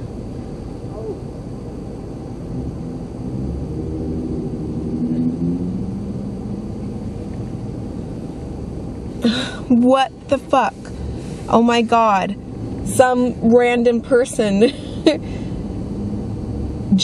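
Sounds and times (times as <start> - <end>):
low rumble of vehicles: 0.0 - 17.0
nearby vehicle engine hum: 0.0 - 17.0.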